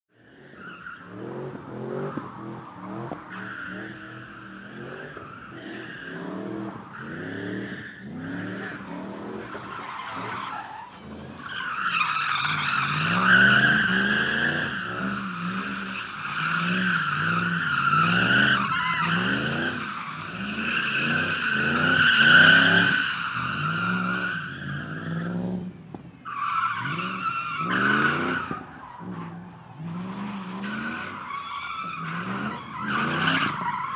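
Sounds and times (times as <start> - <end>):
car engine revving: 0.3 - 33.9.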